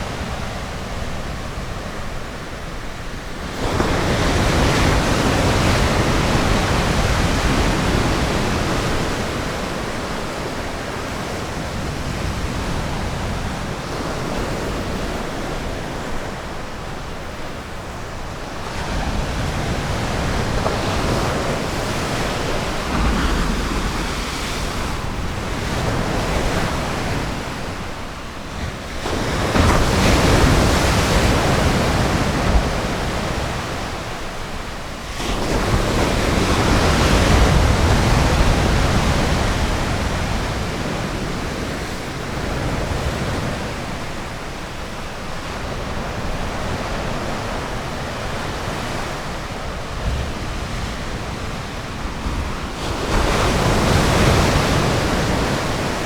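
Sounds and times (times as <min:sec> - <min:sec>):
ocean waves breaking: 0:00.0 - 0:56.0
wind on microphone: 0:00.0 - 0:56.0.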